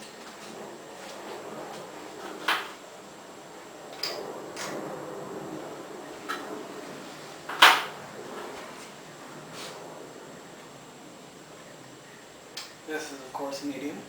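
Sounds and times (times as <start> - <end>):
ceiling fan turning: 0.0 - 14.0.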